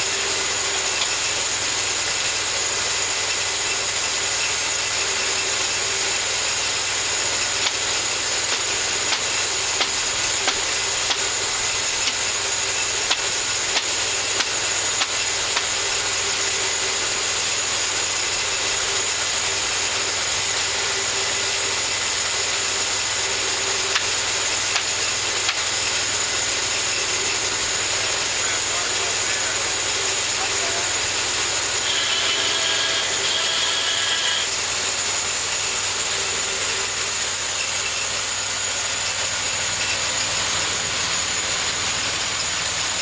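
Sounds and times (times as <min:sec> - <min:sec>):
bandsaw mill sawing log: 0:00.0 - 0:43.0.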